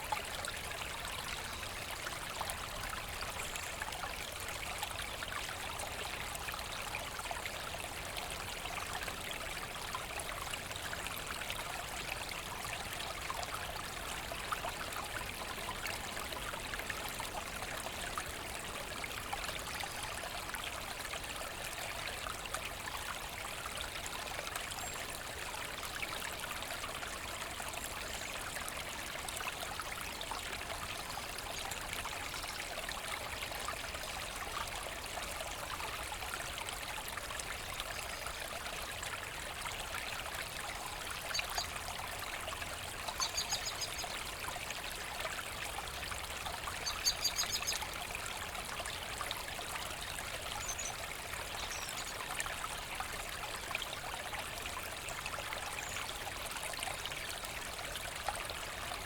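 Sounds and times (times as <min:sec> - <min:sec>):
brook trickling over stones: 0:00.0 - 0:59.0.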